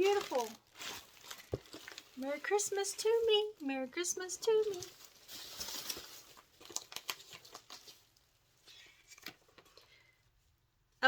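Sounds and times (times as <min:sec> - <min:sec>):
paper wrapping rustling: 0:00.0 - 0:10.0.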